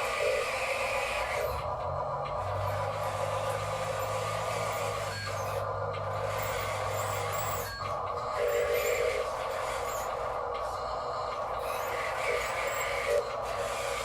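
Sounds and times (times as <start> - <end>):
small electric motors whirring: 0.0 - 14.0.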